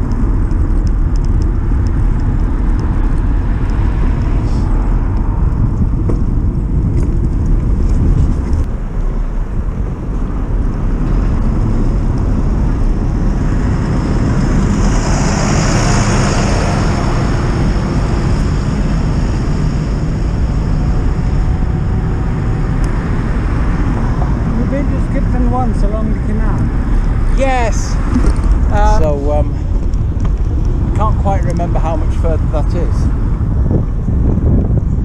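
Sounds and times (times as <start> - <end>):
road and tyre noise: 0.0 - 35.0
wind buffeting microphone: 0.0 - 35.0.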